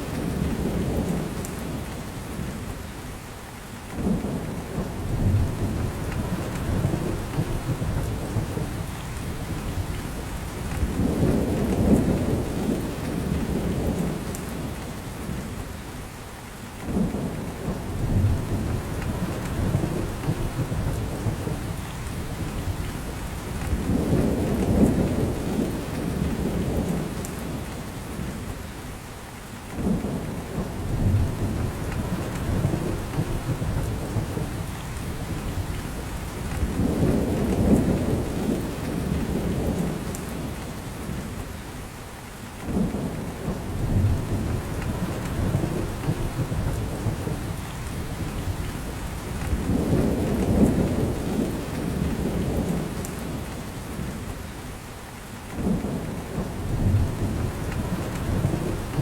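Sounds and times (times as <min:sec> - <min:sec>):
rain in forest: 0:00.0 - 0:59.0.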